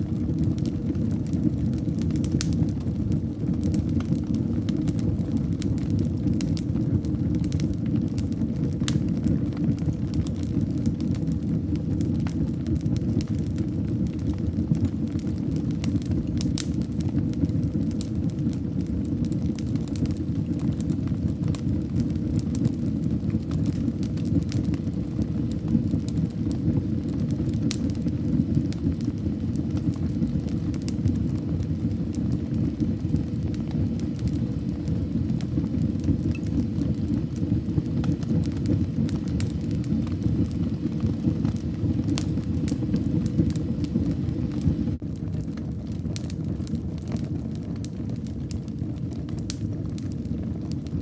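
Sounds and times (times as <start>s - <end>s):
fire burning: 0.0s - 51.0s
fire crackling and popping: 0.0s - 51.0s.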